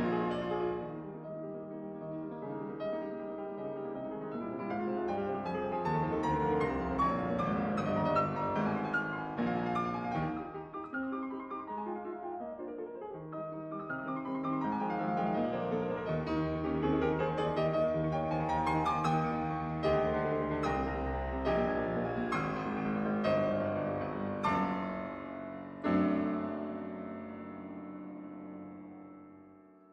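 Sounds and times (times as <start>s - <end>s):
piano music: 0.0s - 29.9s.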